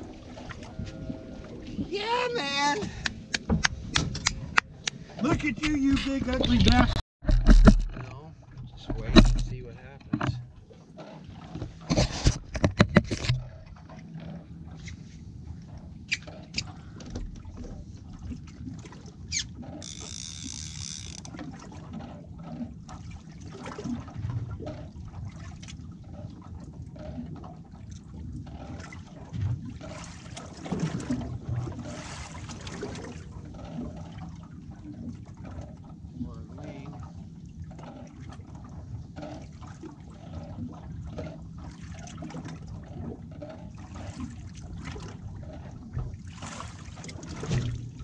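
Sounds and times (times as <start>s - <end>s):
boat and water noise: 0.0s - 48.0s
knocks and rattles on boat deck: 0.0s - 48.0s.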